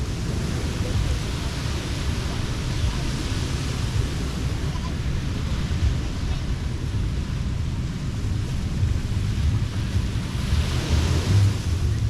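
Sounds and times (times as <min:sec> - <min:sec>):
distant voices: 0:00.0 - 0:12.0
surf washing on beach: 0:00.0 - 0:12.0
wind rumble on microphone: 0:00.0 - 0:12.0.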